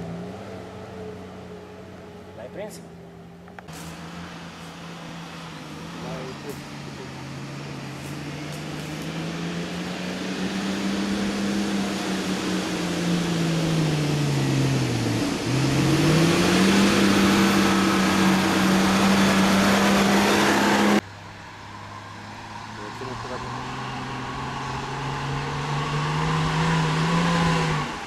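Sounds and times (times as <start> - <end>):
off-road engine under load: 0.0 - 28.0.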